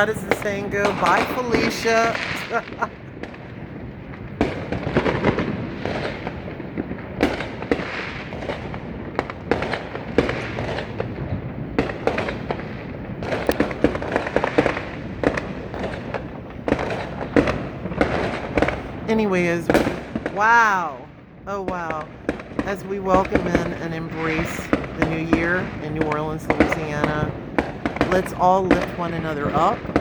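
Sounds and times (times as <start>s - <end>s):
constant firecracker crackle: 0.0s - 30.0s
fireworks cracks and bangs: 0.0s - 30.0s.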